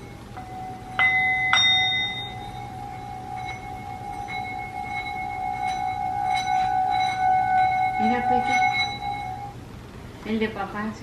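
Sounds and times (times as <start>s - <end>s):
singing bowl ringing: 0.0s - 9.7s.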